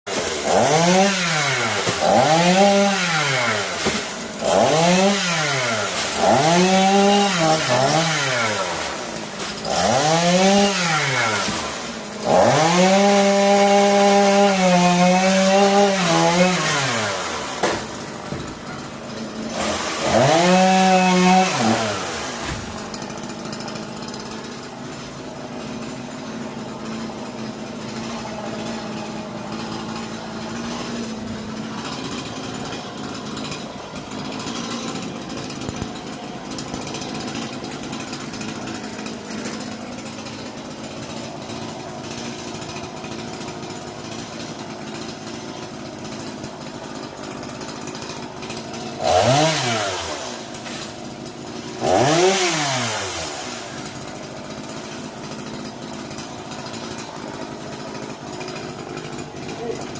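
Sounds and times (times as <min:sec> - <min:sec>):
chainsaw revving and idling: 0:00.1 - 0:59.9.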